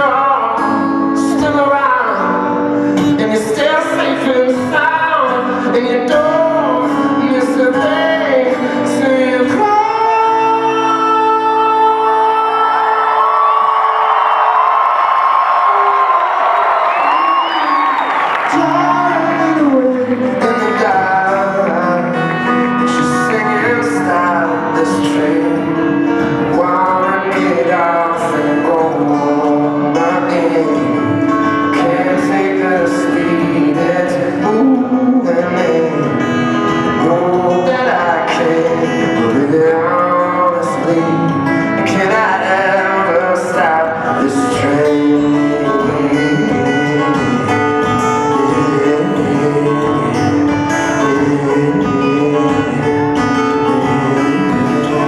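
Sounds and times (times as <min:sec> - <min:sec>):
acoustic guitar playing: 0:00.0 - 0:13.7, 0:18.0 - 0:55.0.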